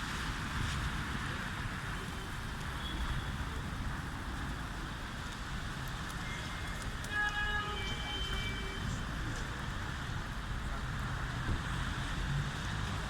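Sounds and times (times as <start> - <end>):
low rumble of wind or traffic: 0.0 - 13.0.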